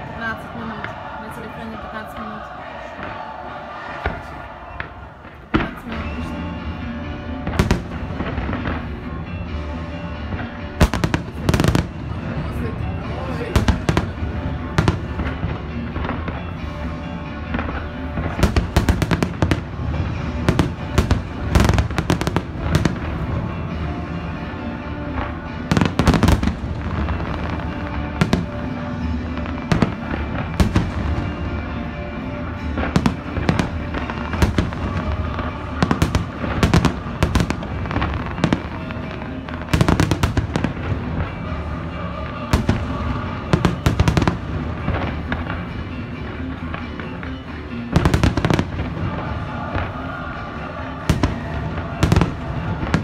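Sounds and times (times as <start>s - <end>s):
music playing: 0.0s - 53.0s
fireworks bursting: 7.4s - 16.7s, 17.4s - 24.5s, 25.1s - 53.0s.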